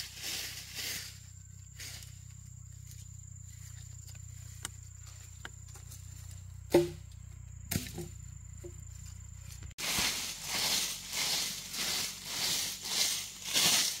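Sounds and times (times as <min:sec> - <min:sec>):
high-pitched insect tone: 0:00.0 - 0:14.0
low hum: 0:00.5 - 0:12.5.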